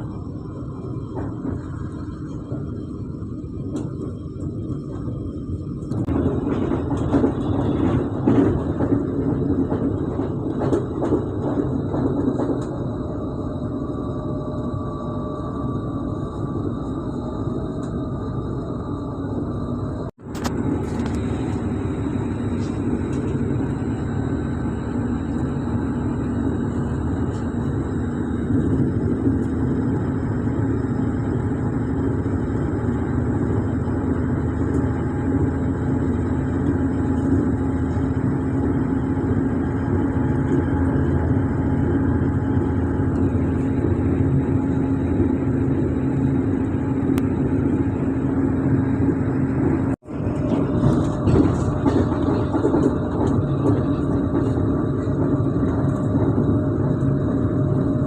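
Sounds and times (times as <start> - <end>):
high whine of train: 0.0 - 58.0
train wheels rumbling on rails: 0.0 - 58.0.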